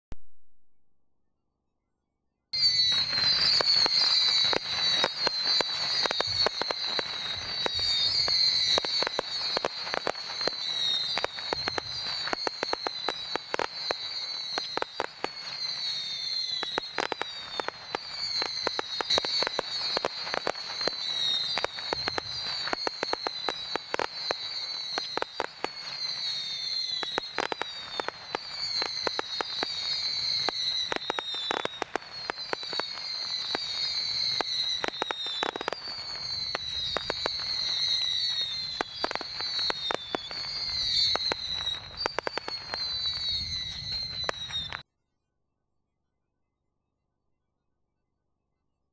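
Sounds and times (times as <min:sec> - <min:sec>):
falling whistle tone: 0:02.6 - 0:44.8
firework cracks: 0:02.6 - 0:44.8.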